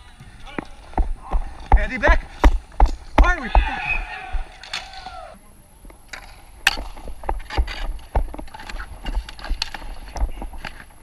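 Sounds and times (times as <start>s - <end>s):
sticks and ball clacking on court: 0.2s - 5.2s, 5.9s - 11.0s.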